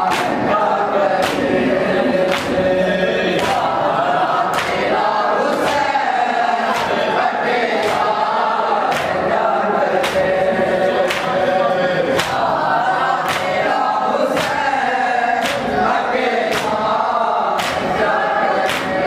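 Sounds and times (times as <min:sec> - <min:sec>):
men chanting through microphone: 0:00.0 - 0:19.0.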